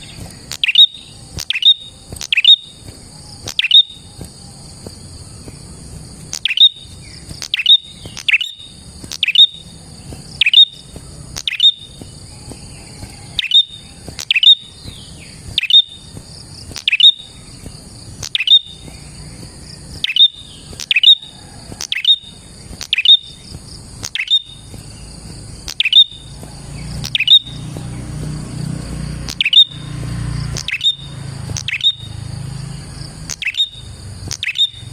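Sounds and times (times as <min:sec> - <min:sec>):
bird singing sharp call notes: 0:00.0 - 0:34.9
steady high buzz: 0:00.0 - 0:34.9.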